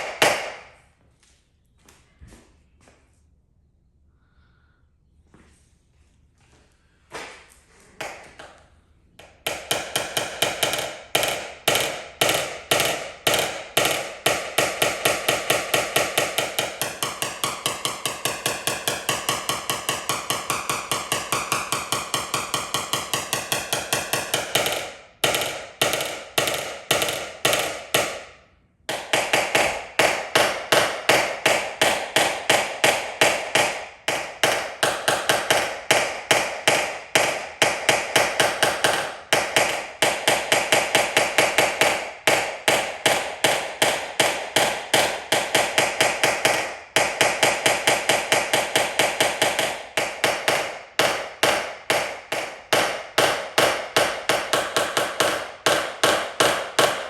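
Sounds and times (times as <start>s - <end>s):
small hammer tapping sheet metal: 0.0s - 0.8s, 8.0s - 8.6s, 9.2s - 57.0s.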